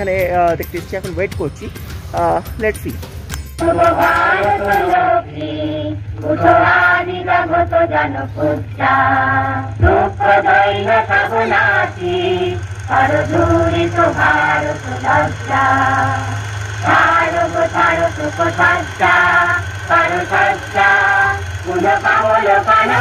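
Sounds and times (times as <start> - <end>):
low hum: 0.9 - 23.0
group singing with music: 3.4 - 23.0.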